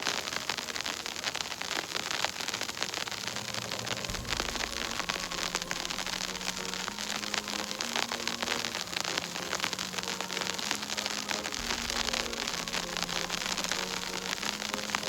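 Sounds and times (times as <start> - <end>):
snow pattering: 0.0 - 15.0.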